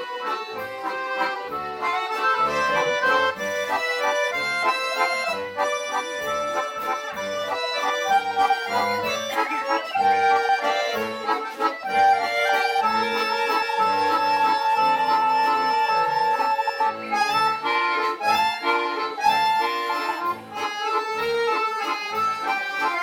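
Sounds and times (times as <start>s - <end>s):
accordion orchestra playing: 0.0s - 23.0s.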